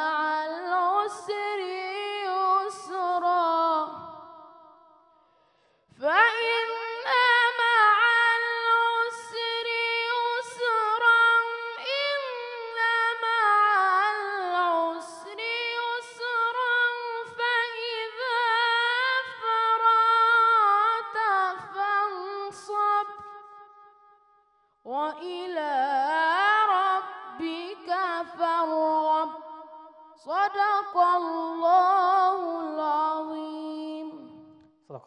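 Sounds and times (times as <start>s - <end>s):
boy reciting melodically: 0.0s - 4.3s, 6.0s - 23.3s, 24.9s - 29.5s, 30.3s - 34.5s.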